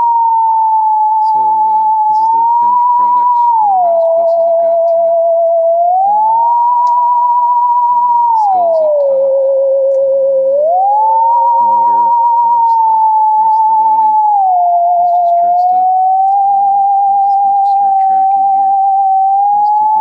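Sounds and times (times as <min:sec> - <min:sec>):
eerie theremin music: 0:00.0 - 0:20.0.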